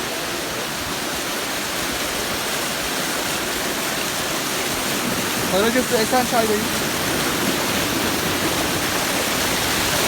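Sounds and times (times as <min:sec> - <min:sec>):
waterfall falling water: 0:00.0 - 0:10.0.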